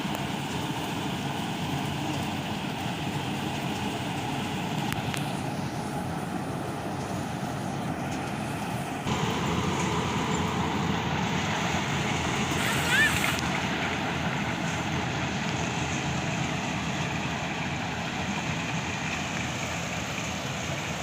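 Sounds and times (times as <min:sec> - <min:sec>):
harvester running: 0:00.0 - 0:21.0.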